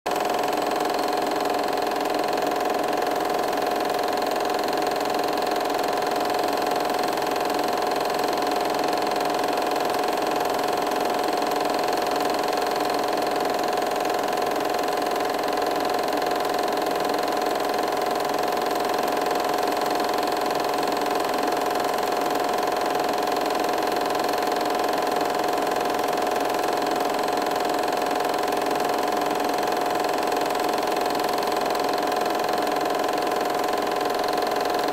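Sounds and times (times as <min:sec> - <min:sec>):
film projector running: 0:00.1 - 0:34.9.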